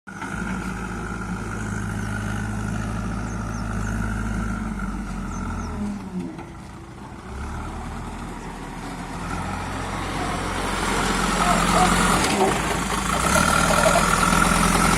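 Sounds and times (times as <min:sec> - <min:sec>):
heavy diesel engine running: 0:00.1 - 0:14.9.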